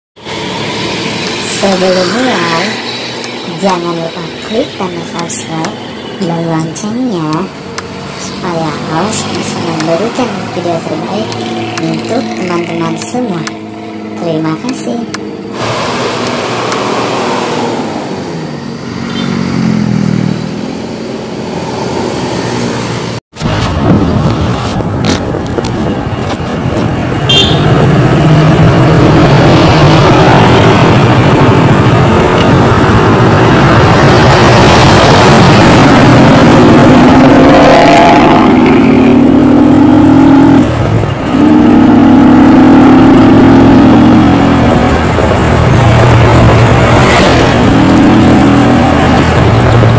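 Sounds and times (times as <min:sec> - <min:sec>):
motorcycle engine with loud exhaust: 0:04.3 - 0:49.9.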